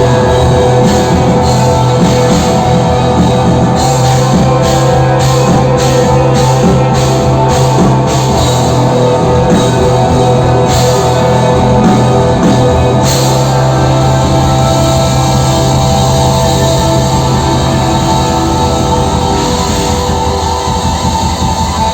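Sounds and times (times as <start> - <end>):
loud rock band playing: 0.0 - 21.9.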